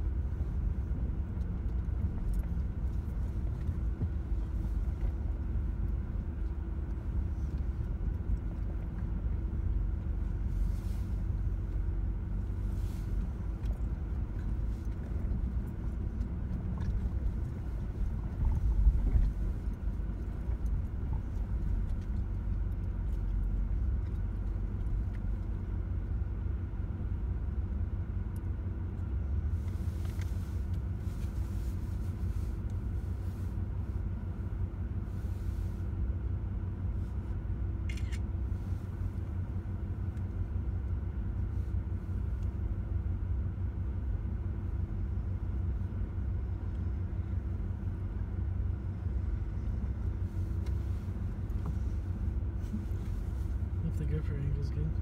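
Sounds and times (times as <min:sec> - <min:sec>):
engine rumbling inside cab: 0:00.0 - 0:55.0.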